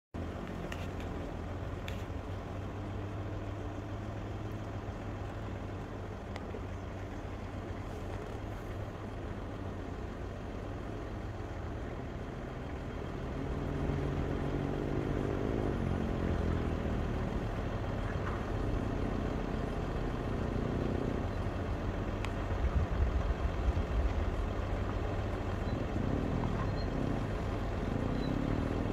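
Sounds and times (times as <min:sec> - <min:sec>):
engine humming and droning: 0:00.2 - 0:28.9.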